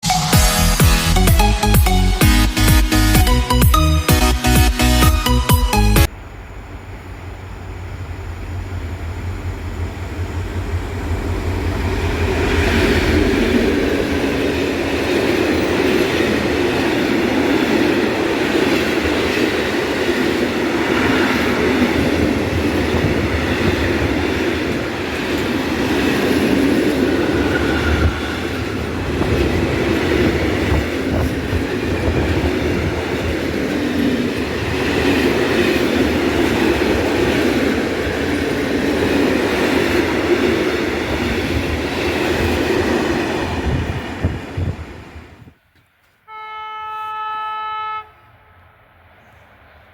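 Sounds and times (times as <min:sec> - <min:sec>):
diesel locomotive engine drone: 0:00.1 - 0:45.6.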